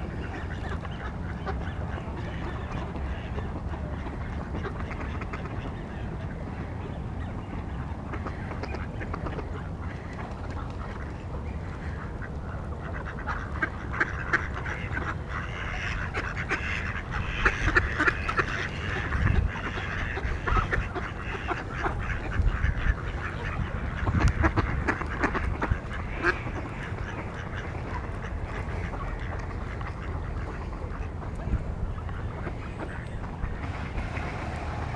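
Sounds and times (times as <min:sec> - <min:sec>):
ducks quacking: 0:00.0 - 0:34.9.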